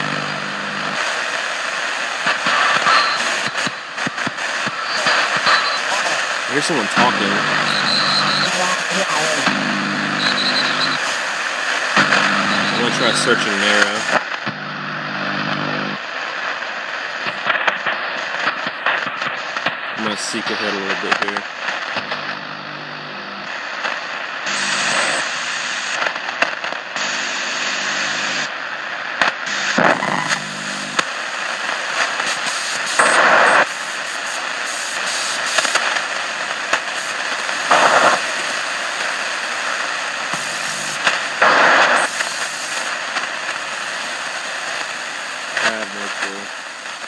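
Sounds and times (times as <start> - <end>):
bursts of louder radio noise: 0.0 - 26.1, 29.3 - 44.1, 45.5 - 47.0
radio static hiss: 0.0 - 47.0.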